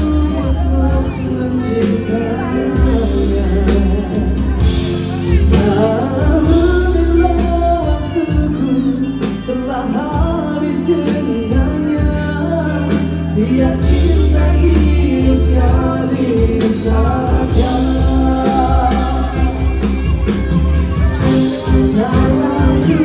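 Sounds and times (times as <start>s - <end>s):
backing track with bass line: 0.0s - 23.0s
male vocal group singing: 0.0s - 23.0s.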